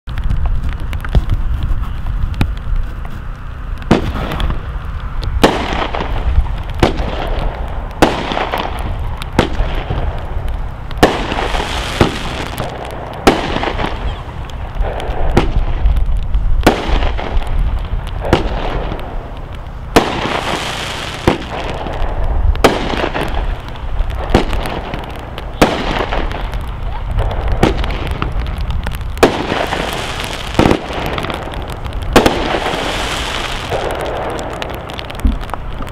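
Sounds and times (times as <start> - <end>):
rushing noise of fireworks bursts: 0.1 - 35.9
fireworks bangs: 0.2 - 35.9.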